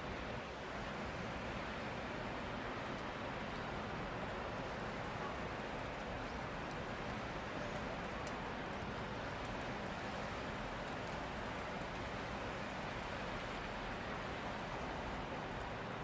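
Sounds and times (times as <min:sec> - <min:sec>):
steady rain falling: 0:00.0 - 0:16.0
faint drip ticks: 0:02.8 - 0:16.0.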